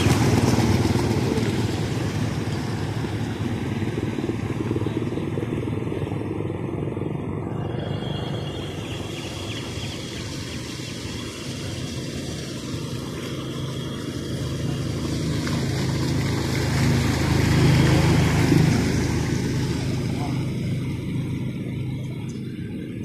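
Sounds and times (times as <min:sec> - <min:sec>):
small motorcycle engine: 0:00.0 - 0:23.0
water splashing around wheels: 0:00.0 - 0:23.0.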